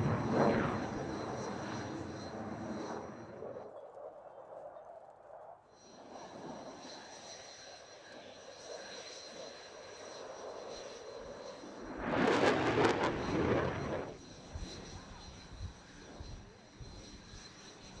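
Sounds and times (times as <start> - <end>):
jet engine rush with whine: 0.0 - 4.8, 5.8 - 18.0.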